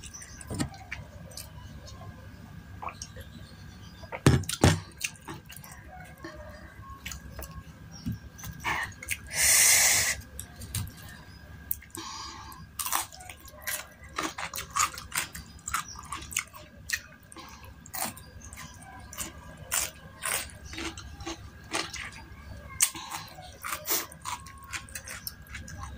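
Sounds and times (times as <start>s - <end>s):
chewing and crunching: 0.0s - 9.5s, 10.2s - 25.9s.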